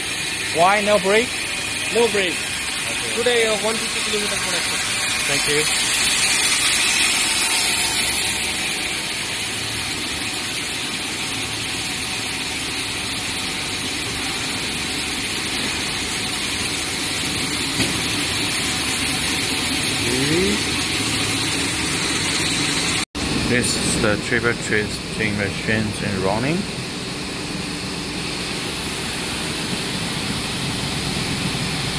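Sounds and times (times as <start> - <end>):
machinery humming and hissing: 0.0 - 31.9.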